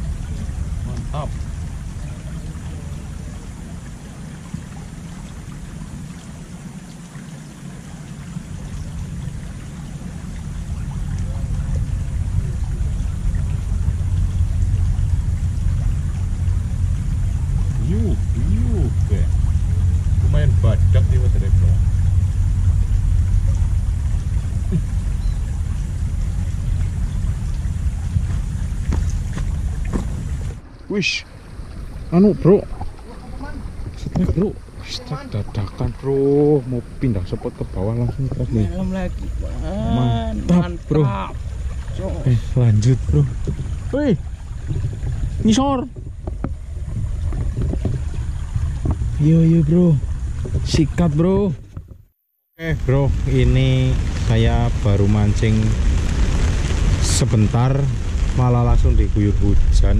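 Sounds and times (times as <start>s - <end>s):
water flowing over rocks: 0.0s - 51.8s, 52.6s - 59.9s
low rumble: 0.0s - 59.9s
wind buffeting microphone: 0.0s - 59.9s.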